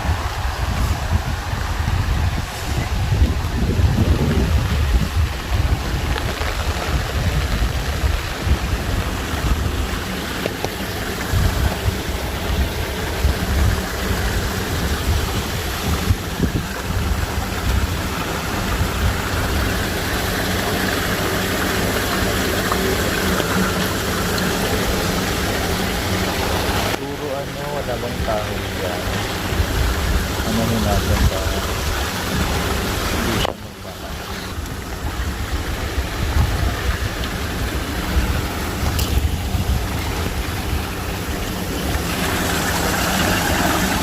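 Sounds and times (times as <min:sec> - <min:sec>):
wind buffeting microphone: 0:00.0 - 0:20.3, 0:27.9 - 0:44.0
low engine hum: 0:00.0 - 0:44.0
rain and hail rushing: 0:00.0 - 0:44.0.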